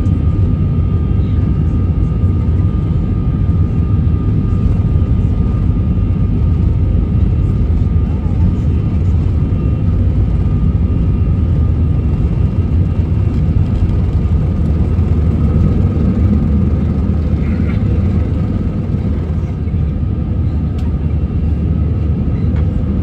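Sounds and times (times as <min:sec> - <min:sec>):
airliner engine drone: 0:00.0 - 0:23.0.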